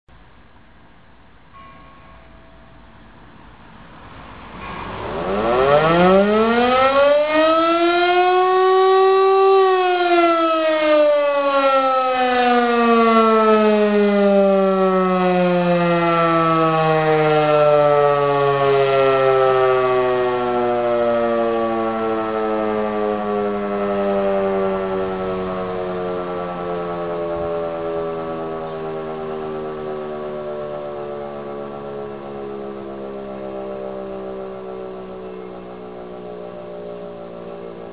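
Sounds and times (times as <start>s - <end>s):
motor siren howling: 2.3s - 37.9s.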